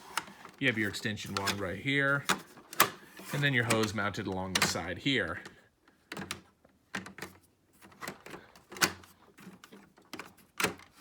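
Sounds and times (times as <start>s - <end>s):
plastic parts clicking and knocking: 1.2s - 11.0s.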